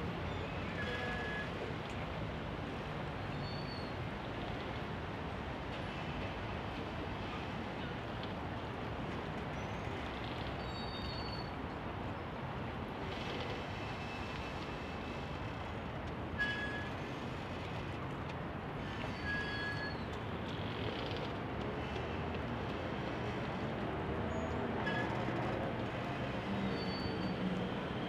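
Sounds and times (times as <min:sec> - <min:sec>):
city traffic hum: 0:00.0 - 0:28.0.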